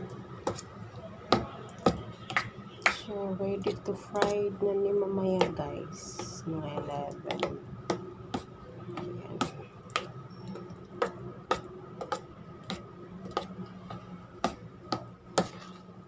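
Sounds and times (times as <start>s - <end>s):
faint steady hum: 0.0s - 16.0s
spoon stirring batter: 0.0s - 16.0s.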